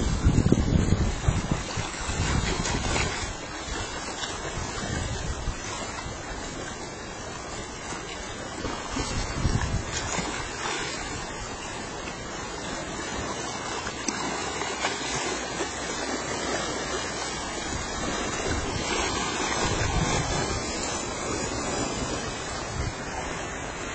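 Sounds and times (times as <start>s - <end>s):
sea water rushing around boat: 0.0s - 23.9s
wind on microphone: 0.0s - 23.9s.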